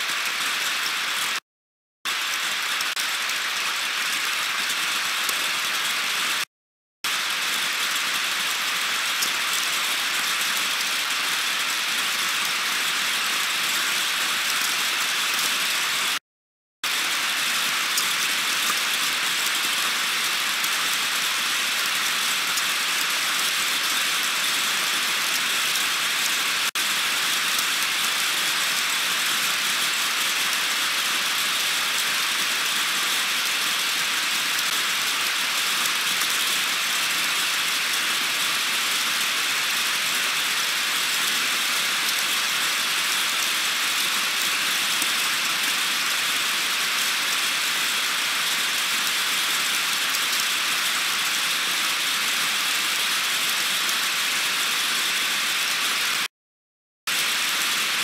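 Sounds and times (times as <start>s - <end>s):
heavy rain hiss: 0.0s - 1.4s, 2.1s - 6.5s, 7.1s - 16.2s, 16.9s - 56.3s, 57.1s - 58.0s.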